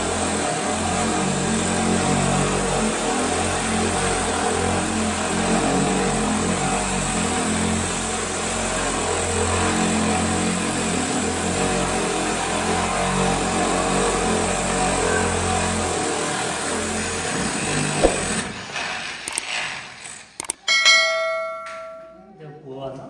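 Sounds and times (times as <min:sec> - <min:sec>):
grinder motor drone: 0:00.0 - 0:19.5.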